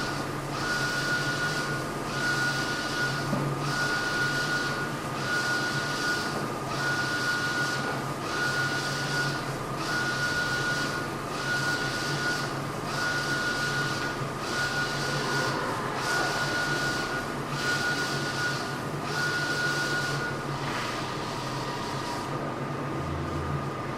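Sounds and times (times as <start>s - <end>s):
printer carriage whining: 0.0s - 23.9s.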